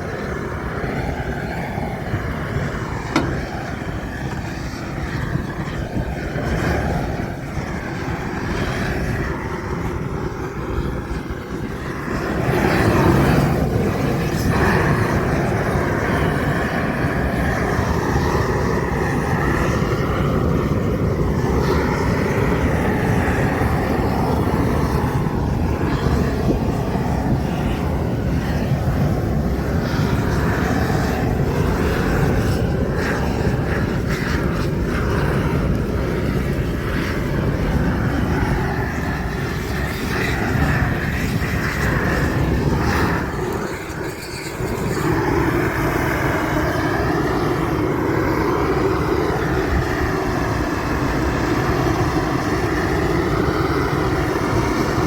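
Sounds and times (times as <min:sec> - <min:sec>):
steady engine drone: 0:00.0 - 0:55.0.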